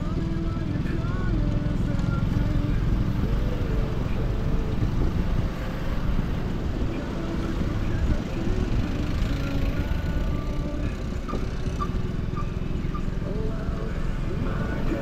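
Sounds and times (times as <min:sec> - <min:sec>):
motorcycle engine at low speed: 0:00.0 - 0:15.0
steady rushing noise: 0:01.3 - 0:15.0.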